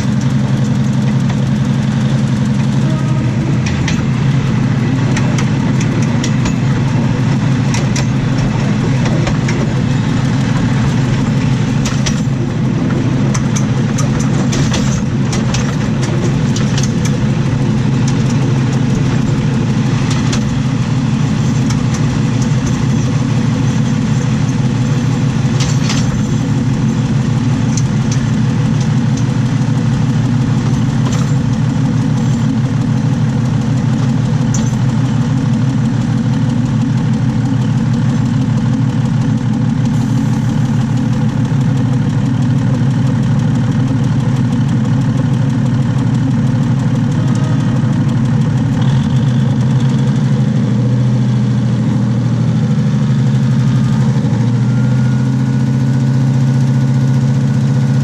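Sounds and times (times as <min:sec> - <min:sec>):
wheels clicking and knocking on rail: 0:00.0 - 0:50.3
diesel railcar rumble and drone: 0:00.0 - 0:58.0.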